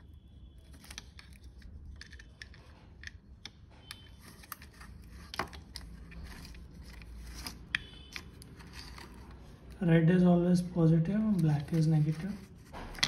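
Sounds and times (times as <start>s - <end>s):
plastic and wire clicks and rustles: 0.0s - 9.8s, 11.1s - 13.0s.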